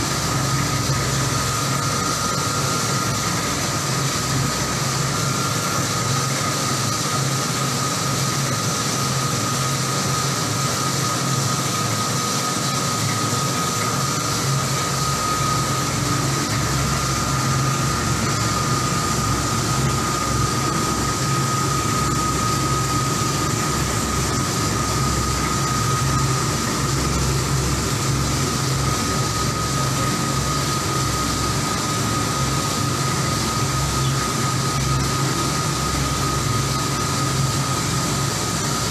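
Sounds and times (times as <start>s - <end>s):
coffee roaster mechanical whir: 0.0s - 38.9s
thin whine: 0.0s - 38.9s.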